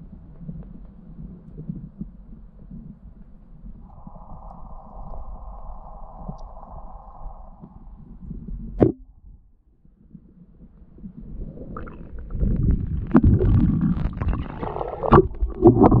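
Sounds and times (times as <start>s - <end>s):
underwater water rumbling: 0.0s - 16.0s.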